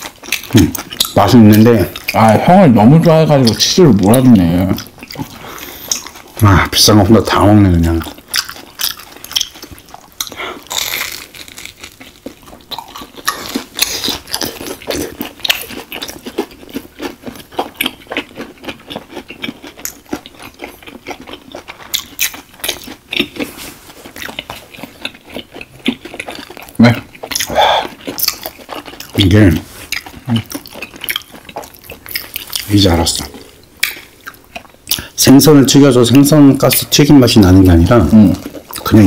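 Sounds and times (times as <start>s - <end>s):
crunchy chewing and biting: 0.0s - 39.0s.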